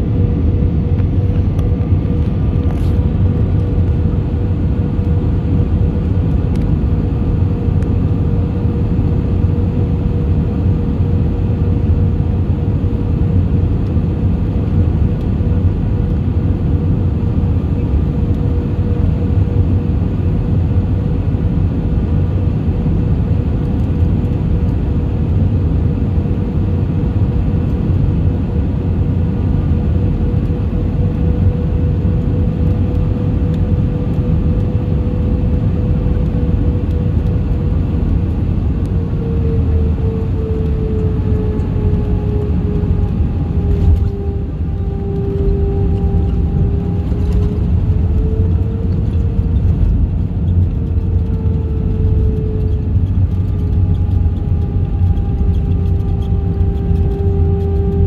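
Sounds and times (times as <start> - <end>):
jet engines and rushing air: 0.0 - 58.0.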